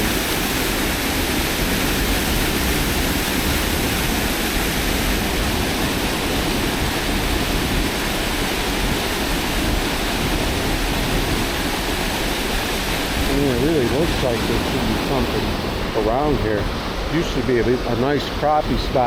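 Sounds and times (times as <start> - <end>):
floodwater rushing over dam: 0.0 - 19.0.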